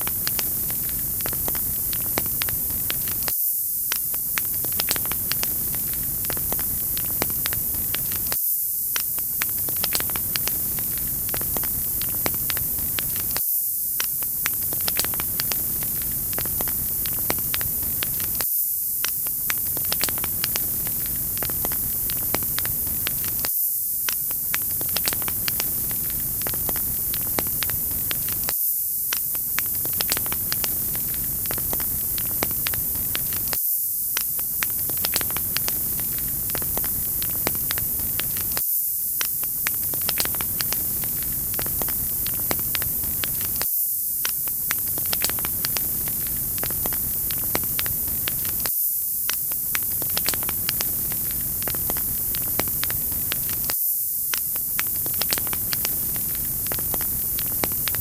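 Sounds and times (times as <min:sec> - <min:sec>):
wood fire crackling: 0:00.0 - 0:03.3, 0:04.0 - 0:13.4, 0:14.0 - 0:18.4, 0:19.0 - 0:28.5, 0:29.1 - 0:38.6, 0:39.2 - 0:43.6, 0:44.2 - 0:58.0.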